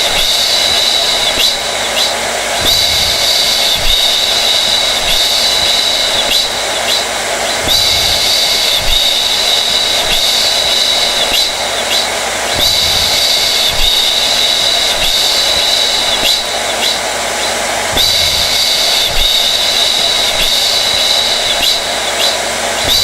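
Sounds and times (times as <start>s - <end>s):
hair dryer running: 0.0s - 23.0s.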